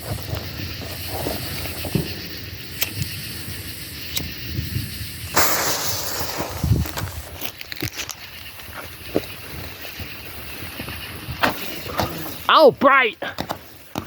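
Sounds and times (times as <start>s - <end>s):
firework hiss: 0.0s - 14.0s.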